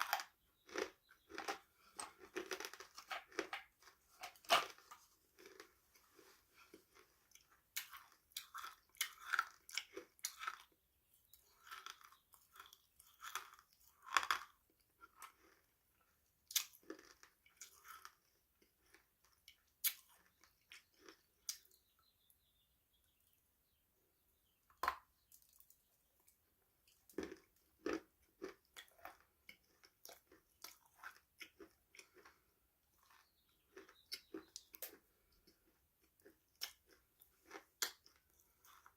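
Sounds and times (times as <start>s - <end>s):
crunchy food being chewed: 0.0s - 22.3s, 24.7s - 38.9s.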